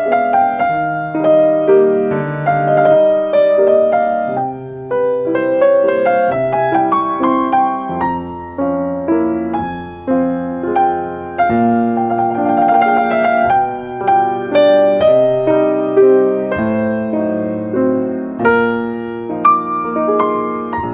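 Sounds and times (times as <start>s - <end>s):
slow piano music: 0.0s - 20.9s.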